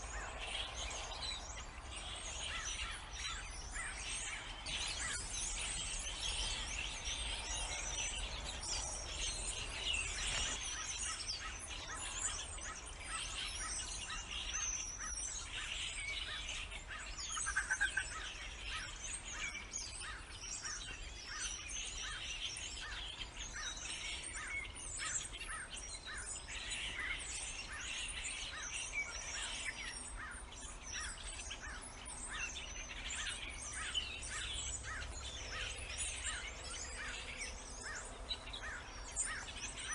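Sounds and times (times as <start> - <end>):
chorus of small birds chirping: 0.0 - 39.9.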